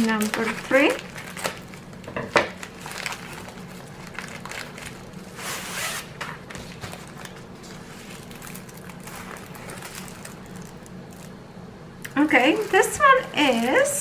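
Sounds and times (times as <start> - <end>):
canvas and packaging rustling: 0.0 - 11.4, 12.2 - 14.0
steady low hum: 0.0 - 14.0.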